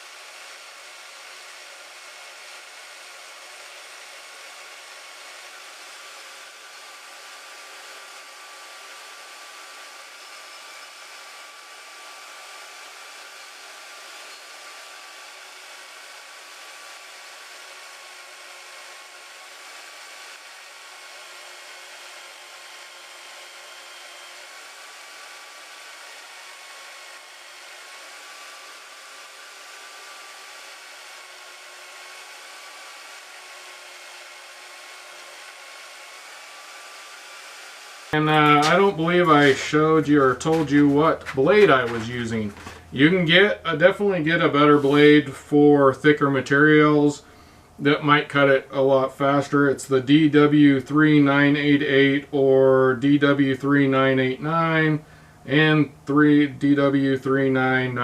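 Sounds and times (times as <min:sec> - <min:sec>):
band saw motor whirring: 0:00.0 - 0:58.0.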